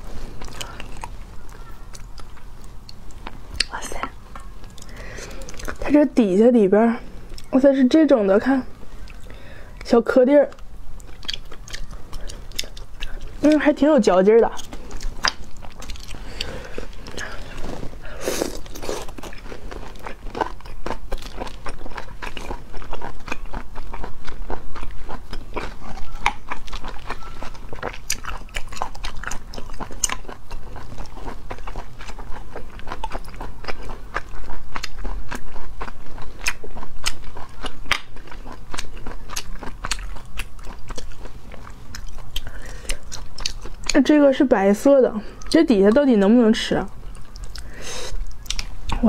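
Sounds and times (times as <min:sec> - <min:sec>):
person chewing: 0:00.0 - 0:06.0, 0:07.1 - 0:07.6, 0:08.7 - 0:09.9, 0:10.5 - 0:44.0, 0:45.3 - 0:46.0, 0:46.9 - 0:49.0.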